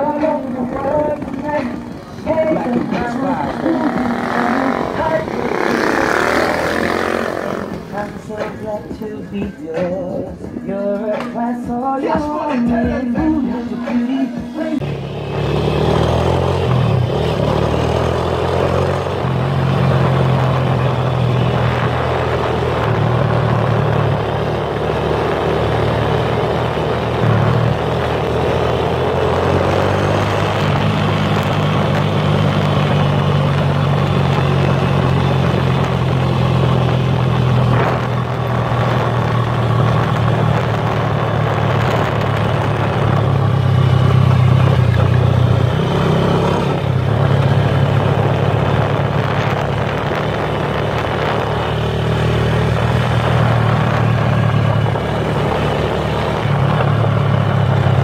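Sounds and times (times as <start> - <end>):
motorcycle engine droning: 0.0 - 58.0
wind and road noise: 0.0 - 58.0.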